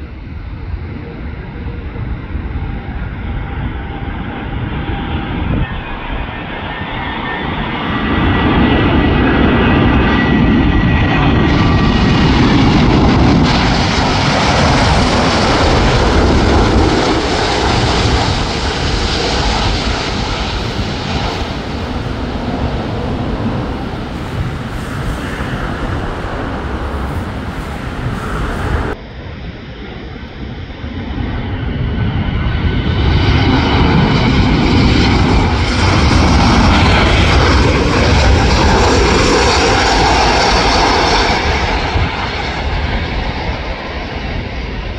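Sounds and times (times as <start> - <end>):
jet engine whine: 0.0 - 44.9
jet roar: 0.0 - 44.9.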